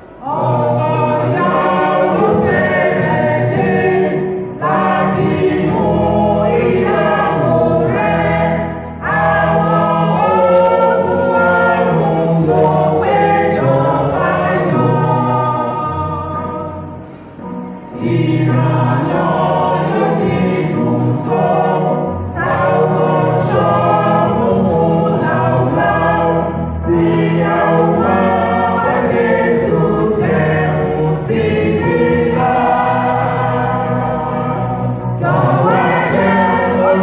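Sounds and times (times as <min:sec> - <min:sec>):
church choir singing a hymn: 0:00.0 - 0:37.0.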